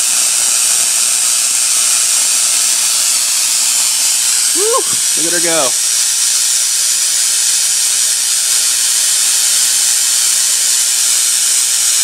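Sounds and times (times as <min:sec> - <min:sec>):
spark gap hissing: 0:00.0 - 0:12.0.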